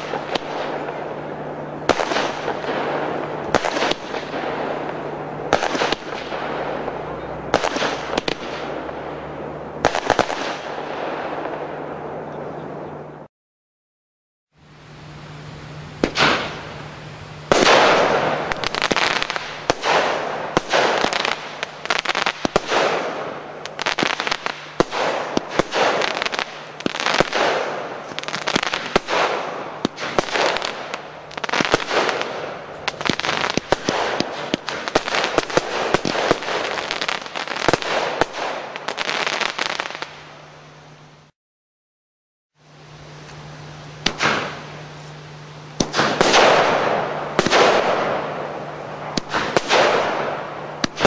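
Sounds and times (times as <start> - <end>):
fireworks bangs and bursts: 0.0 - 12.3, 15.9 - 40.3, 44.0 - 44.8, 45.7 - 51.0.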